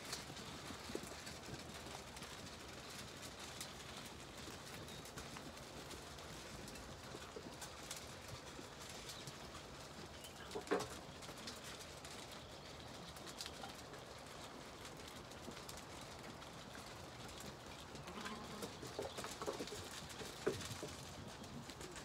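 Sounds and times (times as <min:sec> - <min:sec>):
hooves shuffling on ground: 0:00.0 - 0:22.0
sheep chewing: 0:00.0 - 0:22.0.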